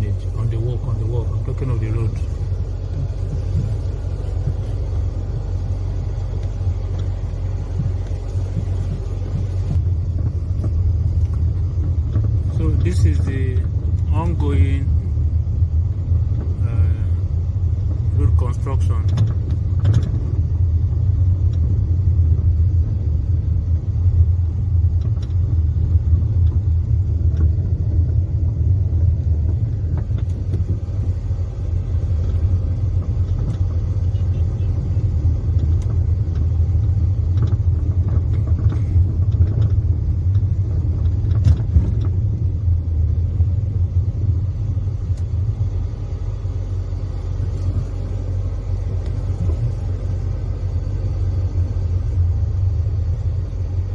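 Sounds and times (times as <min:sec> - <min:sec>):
car driving rumble: 0:00.0 - 0:53.9.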